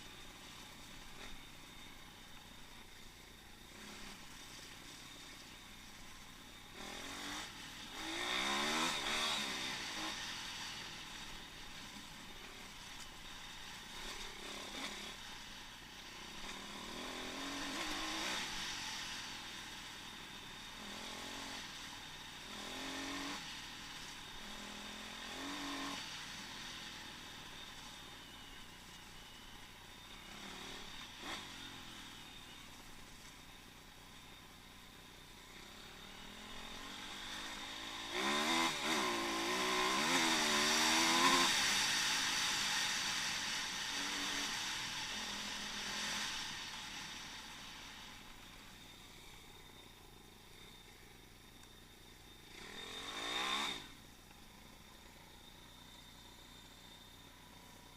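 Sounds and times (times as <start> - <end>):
pit bike engine revving: 3.6 - 56.4.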